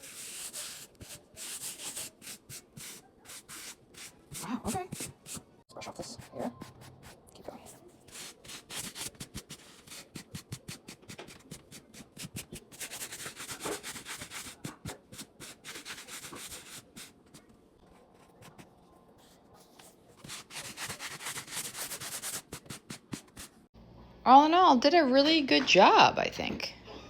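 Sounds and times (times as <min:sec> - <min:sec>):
glove rubbing over fabric: 0:00.0 - 0:07.3, 0:08.0 - 0:23.7.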